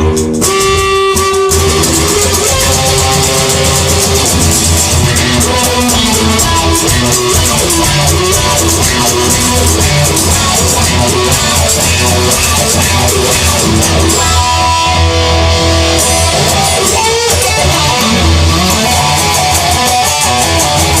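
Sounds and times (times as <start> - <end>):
drum kit beat: 0.0 - 21.0
electric guitar: 0.0 - 21.0.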